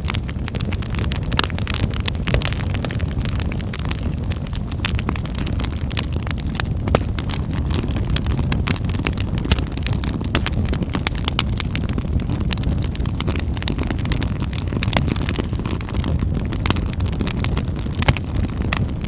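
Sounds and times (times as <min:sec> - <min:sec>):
fire crackles and pops: 0:00.0 - 0:19.0
fire flames rushing: 0:00.0 - 0:19.0.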